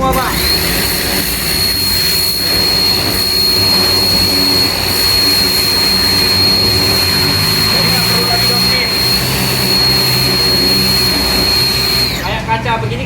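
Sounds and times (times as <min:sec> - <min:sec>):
high-pitched whine: 0:00.0 - 0:12.6
pressure washer spraying: 0:00.0 - 0:12.6.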